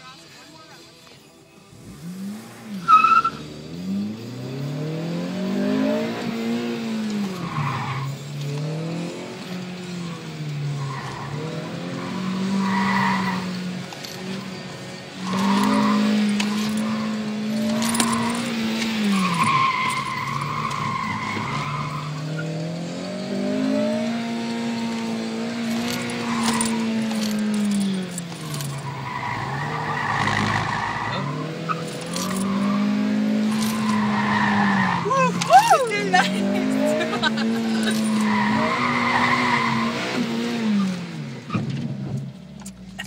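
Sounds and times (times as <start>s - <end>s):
car engine revving: 1.6s - 43.0s
tires squealing: 1.8s - 42.2s.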